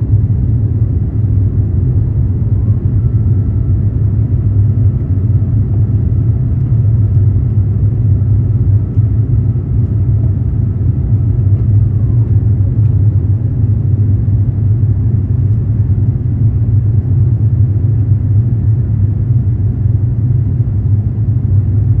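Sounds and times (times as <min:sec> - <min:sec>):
jet engines deep rumble: 0:00.0 - 0:22.0.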